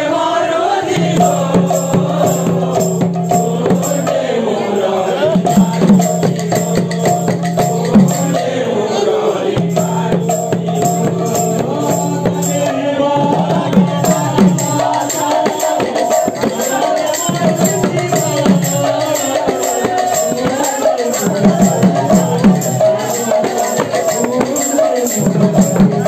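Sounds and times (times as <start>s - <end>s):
voices singing: 0.0s - 26.0s
hand cymbals: 1.0s - 8.9s, 9.6s - 26.0s
hand drums: 1.0s - 26.0s.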